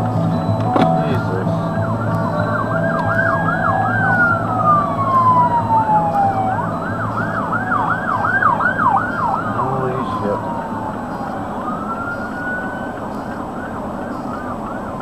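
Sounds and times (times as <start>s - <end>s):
emergency vehicle siren: 0.0s - 15.0s.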